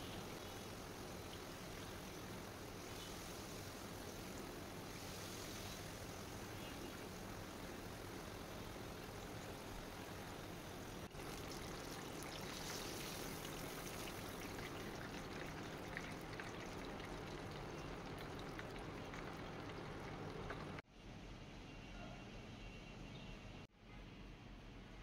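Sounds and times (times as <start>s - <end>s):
hot oil sizzling and popping: 0.0s - 20.8s.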